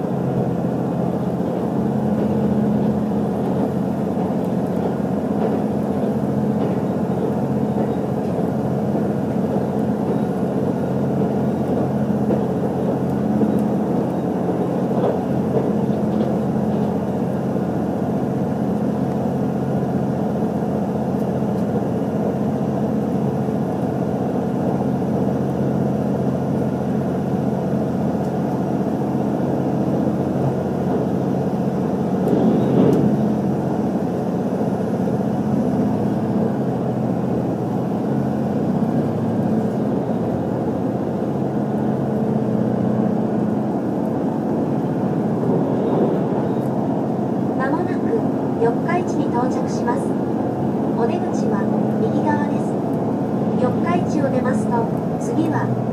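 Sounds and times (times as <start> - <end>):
railcar engine drone: 0.0 - 55.9
wheel-on-rail noise: 0.0 - 55.9.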